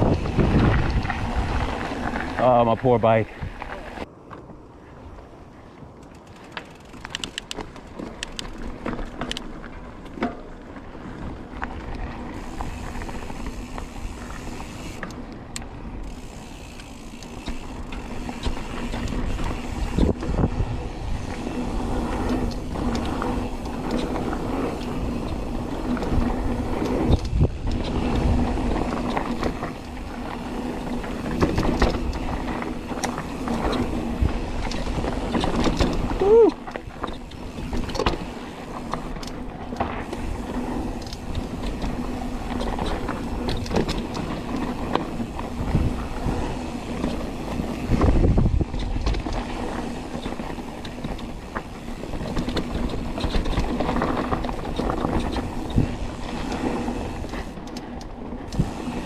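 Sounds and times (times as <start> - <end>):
bike rattling and knocking: 0.0 - 3.9, 6.2 - 59.0
bike tyres on dirt: 0.0 - 59.0.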